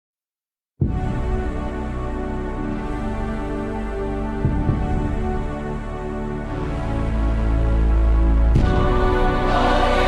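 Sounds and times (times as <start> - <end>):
instrumental music with sustained tones: 0.9 - 10.0.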